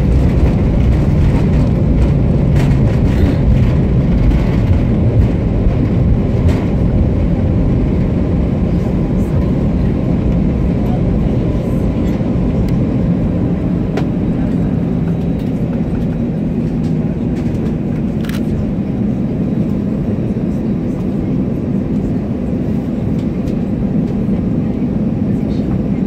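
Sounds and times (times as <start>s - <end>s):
deep rumble of engines and wheels: 0.0s - 26.0s.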